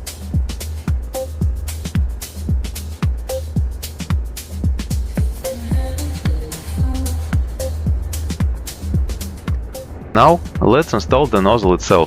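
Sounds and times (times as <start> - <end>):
kick-drum beat: 0.0 - 11.8
sustained bass line: 0.0 - 12.0.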